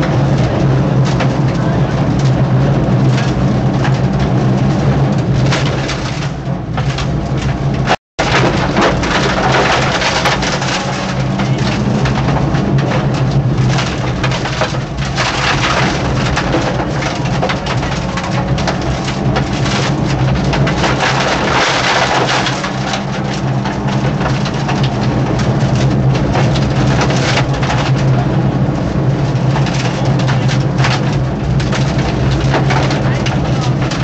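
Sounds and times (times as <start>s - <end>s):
rally car engine at high revs: 0.0s - 34.0s
road and underbody noise: 0.0s - 34.0s
small hits and rattles: 3.0s - 28.4s, 29.1s - 34.0s.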